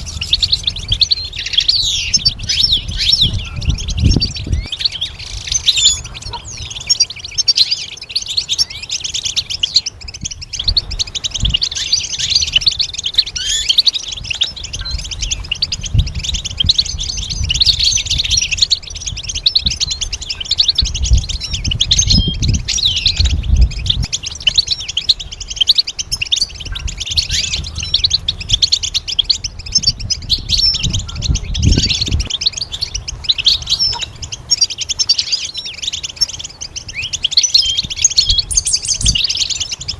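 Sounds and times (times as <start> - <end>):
goldfinch chirps and trills: 0.0 - 39.9.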